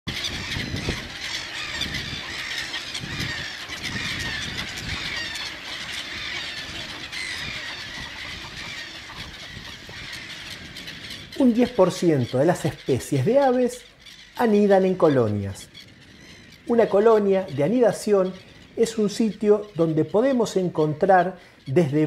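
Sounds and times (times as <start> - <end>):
chorus of many birds calling: 0.1 - 22.0.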